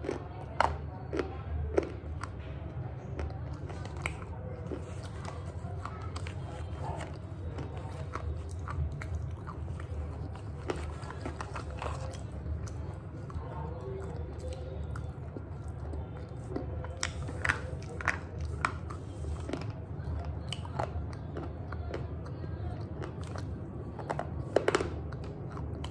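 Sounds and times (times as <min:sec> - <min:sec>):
pencils crunching when chewed: 0:00.0 - 0:25.9.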